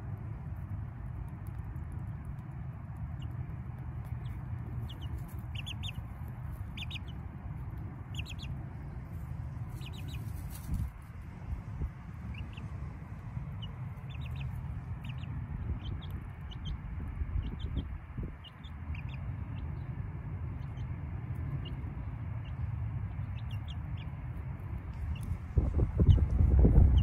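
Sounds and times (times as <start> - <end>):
steady low rumble: 0.0 - 27.0
chickens peeping: 4.0 - 19.9, 20.5 - 27.0.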